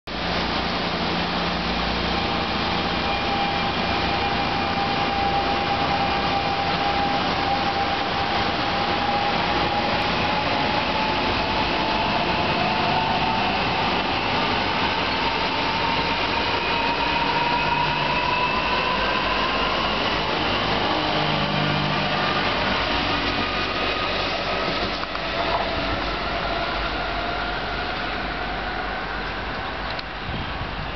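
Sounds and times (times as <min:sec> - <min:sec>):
train running on track: 0:00.1 - 0:30.9.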